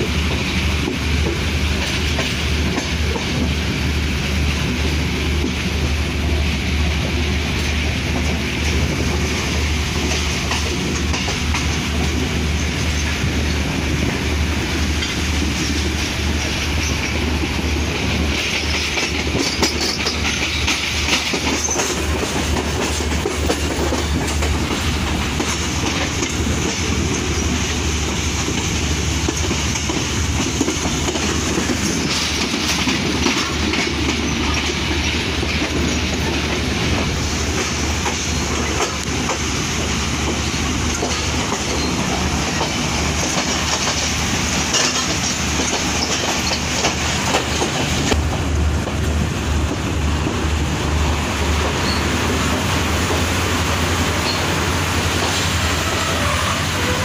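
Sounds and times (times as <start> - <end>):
train rumble: 0.0 - 57.0
wheels clacking over rail joints: 0.0 - 57.0.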